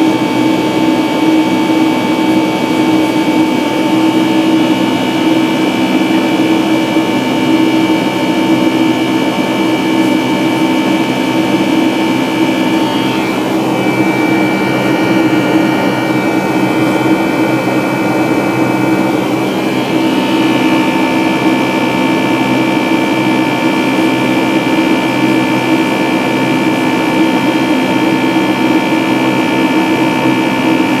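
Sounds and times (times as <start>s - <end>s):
high engine whine: 0.0s - 31.0s
jet engines droning in cabin: 0.0s - 31.0s.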